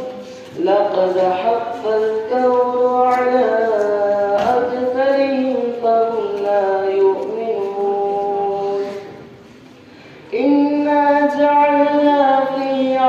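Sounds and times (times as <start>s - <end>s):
boy singing a slow chant: 0.0s - 9.5s, 10.2s - 13.0s.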